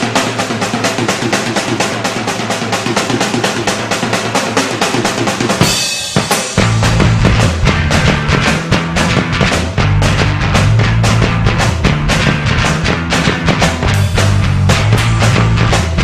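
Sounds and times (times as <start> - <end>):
rock band playing: 0.0 - 16.0
snare and bass drum hits: 0.0 - 16.0.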